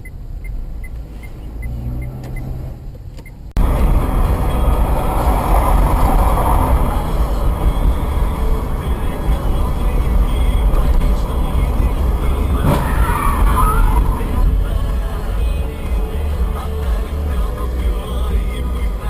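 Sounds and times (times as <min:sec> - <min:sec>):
car engine hum: 0:00.0 - 0:19.0
engine and road noise rush: 0:00.0 - 0:19.0.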